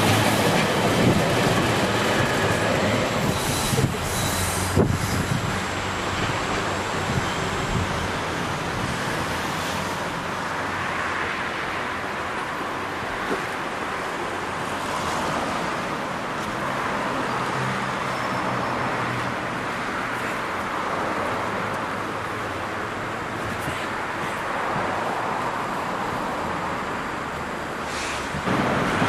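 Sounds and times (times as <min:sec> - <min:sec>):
train moving away: 0:00.0 - 0:20.0, 0:25.0 - 0:29.0.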